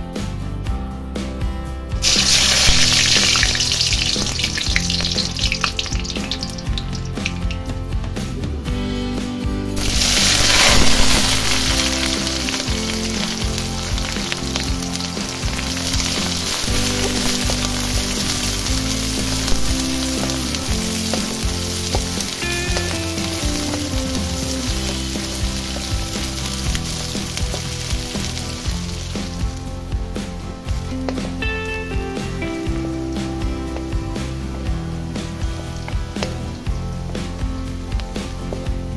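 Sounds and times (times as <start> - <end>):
background music: 0.0 - 38.9
onions sizzling in hot oil: 2.0 - 7.6, 9.8 - 38.9.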